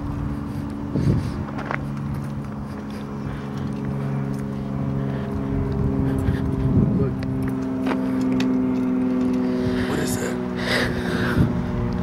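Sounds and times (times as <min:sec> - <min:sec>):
car engine humming: 0:00.0 - 0:12.0
road rumble: 0:00.0 - 0:12.0.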